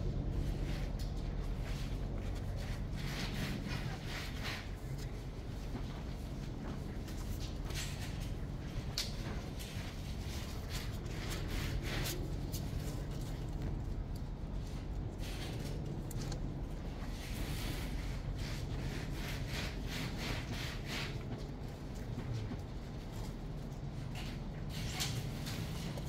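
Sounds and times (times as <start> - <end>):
steady low hum: 0.0 - 26.0
kittens scratching on cardboard: 0.1 - 26.0.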